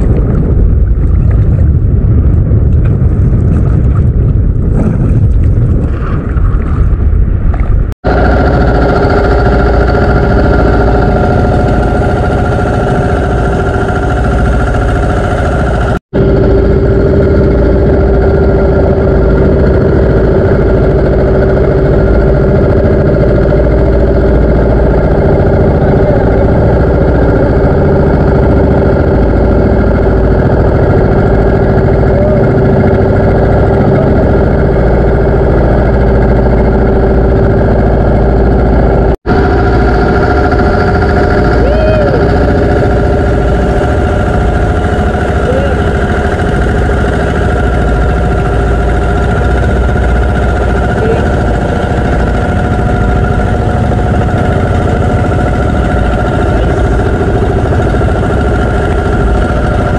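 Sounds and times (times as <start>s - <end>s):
boat engine droning: 0.0s - 59.9s
wind rumbling on microphone: 0.0s - 59.9s.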